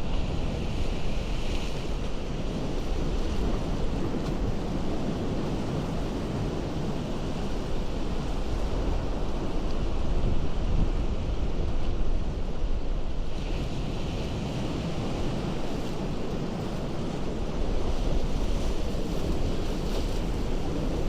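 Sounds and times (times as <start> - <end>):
ocean surf on rocks: 0.0 - 21.0
wind rumble on microphone: 0.0 - 21.0.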